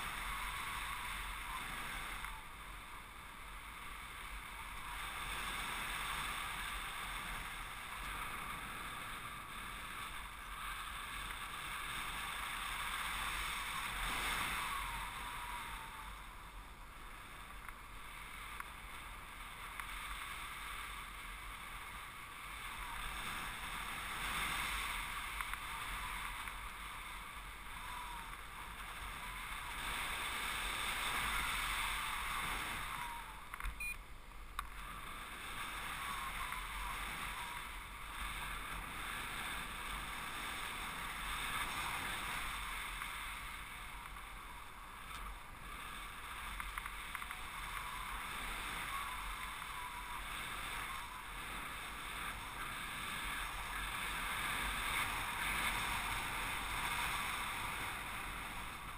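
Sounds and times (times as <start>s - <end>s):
wind rushing past camera: 0.0s - 58.9s.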